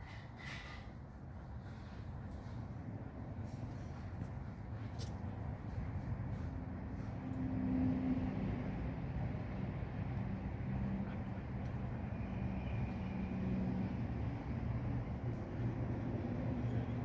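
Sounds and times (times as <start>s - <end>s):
low engine hum: 2.8s - 17.0s.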